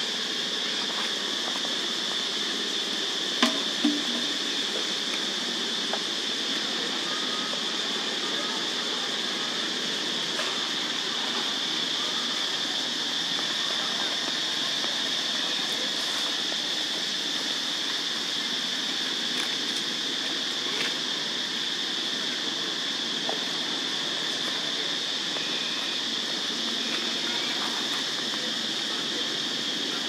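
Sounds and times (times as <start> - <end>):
constant hiss: 0.0 - 30.0
high-pitched insect drone: 0.0 - 30.0.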